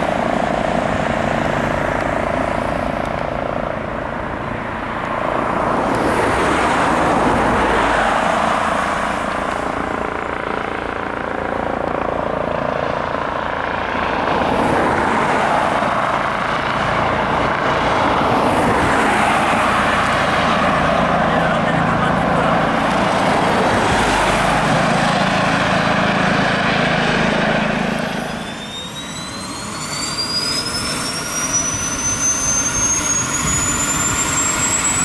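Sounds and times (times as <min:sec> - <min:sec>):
helicopter turbine and rotor noise: 0:00.0 - 0:35.0.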